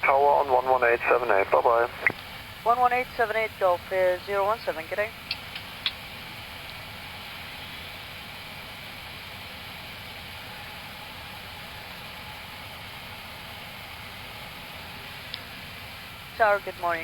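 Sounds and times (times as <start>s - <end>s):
cockpit airflow and ventilation hiss: 0.0s - 17.0s.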